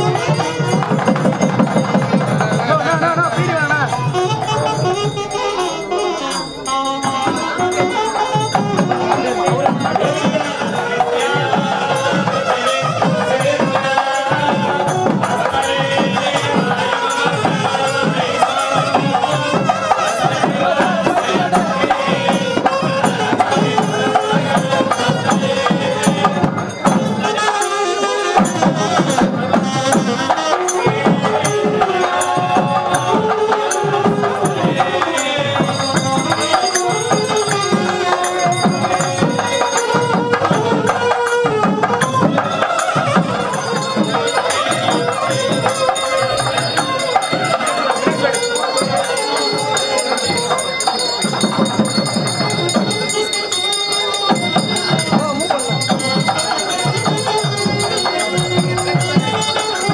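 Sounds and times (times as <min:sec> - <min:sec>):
devotional music with percussion: 0:00.0 - 0:59.9.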